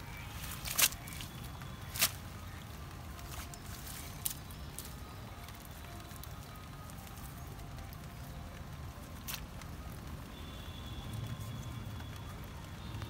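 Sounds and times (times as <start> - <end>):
wet net rustling and crackling: 0.0 - 13.0.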